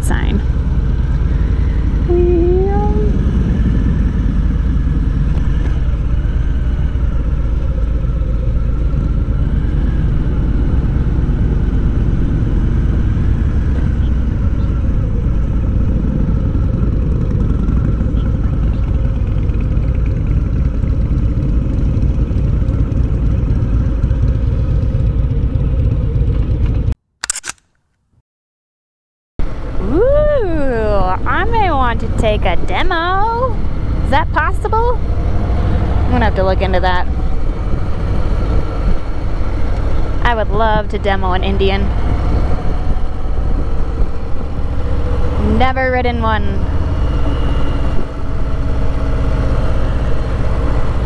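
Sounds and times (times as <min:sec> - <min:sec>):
motorcycle engine rumbling: 0:00.0 - 0:26.9, 0:29.4 - 0:51.0.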